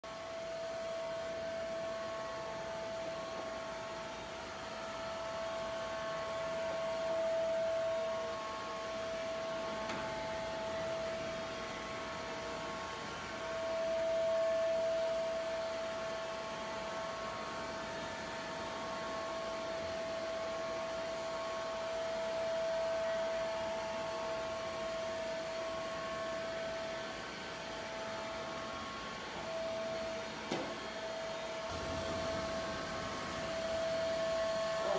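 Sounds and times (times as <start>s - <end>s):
robot vacuum motor whine: 2.3s - 34.9s.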